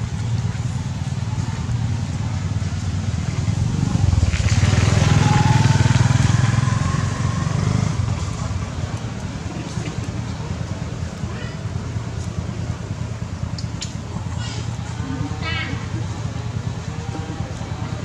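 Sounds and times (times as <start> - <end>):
motor engine rumbling: 0.0 - 18.0.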